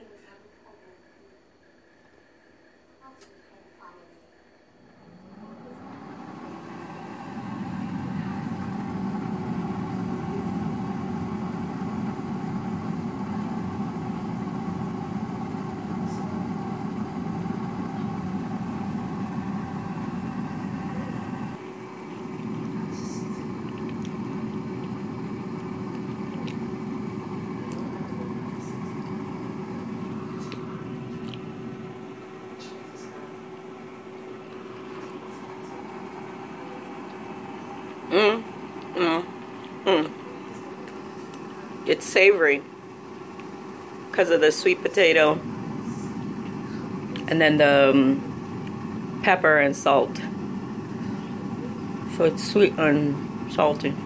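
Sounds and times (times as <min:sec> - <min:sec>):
air fryer fan motor humming: 0:04.4 - 0:54.0.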